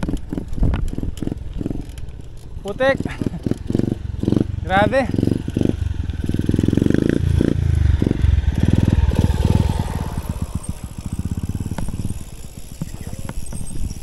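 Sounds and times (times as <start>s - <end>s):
bicycle rattling and clicking: 0.0s - 14.0s
motorcycle engine chugging: 0.0s - 14.0s.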